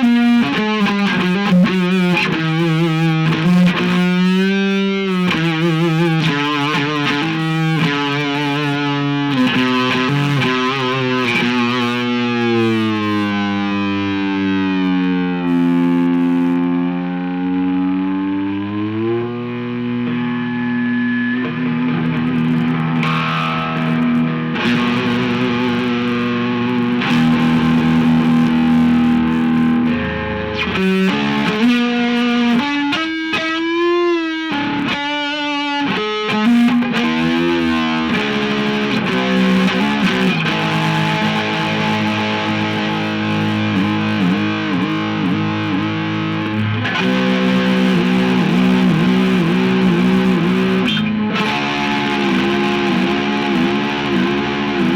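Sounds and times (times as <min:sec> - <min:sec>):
distorted electric guitar: 0:00.0 - 0:54.9.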